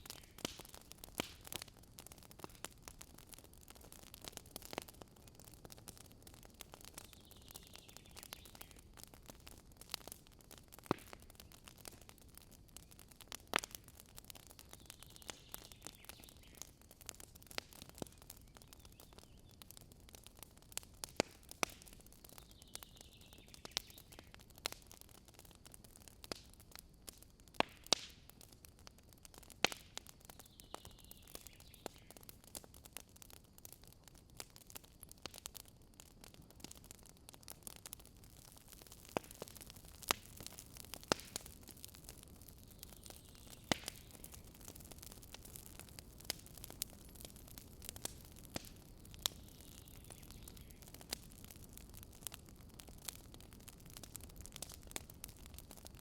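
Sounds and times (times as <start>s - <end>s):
campfire pops and snaps: 0.0s - 56.0s
low burning hiss: 0.0s - 56.0s.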